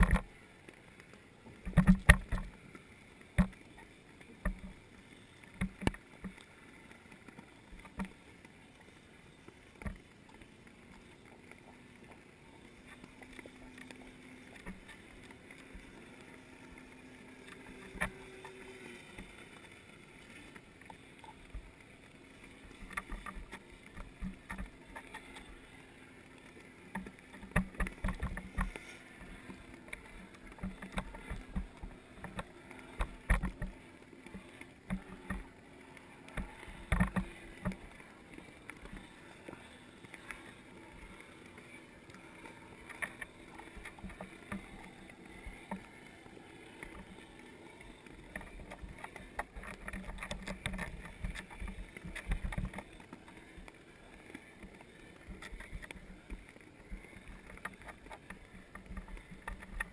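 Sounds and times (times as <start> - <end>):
underwater clicks: 0.0 - 8.6, 9.4 - 59.9
faint steady hum: 0.0 - 59.9.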